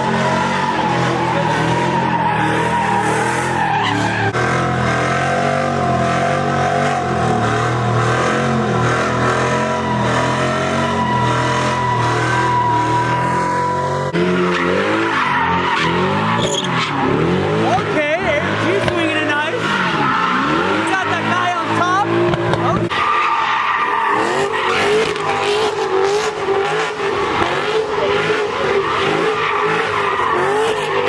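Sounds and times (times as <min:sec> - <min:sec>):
car engine revving: 0:00.0 - 0:31.0
tyres squealing: 0:00.0 - 0:31.0.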